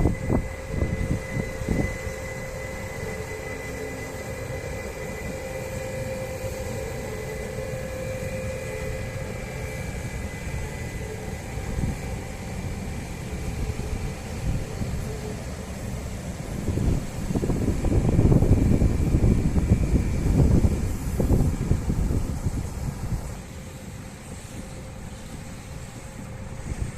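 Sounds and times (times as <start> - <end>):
electric train running on track: 0.0 - 26.9
wind buffeting microphone: 0.0 - 26.9.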